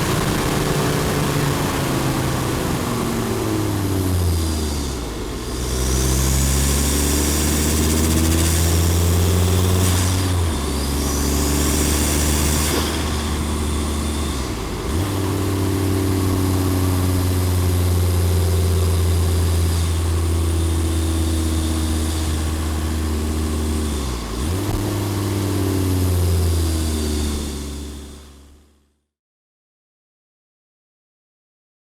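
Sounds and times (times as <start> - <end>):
diesel engine running: 0.0 - 28.6.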